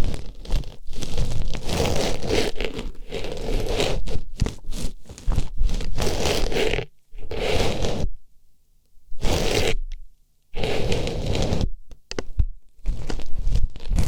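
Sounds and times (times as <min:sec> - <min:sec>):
artificial rose scratching in ear: 0:00.0 - 0:08.2, 0:09.1 - 0:09.9, 0:10.5 - 0:11.8, 0:12.8 - 0:14.0.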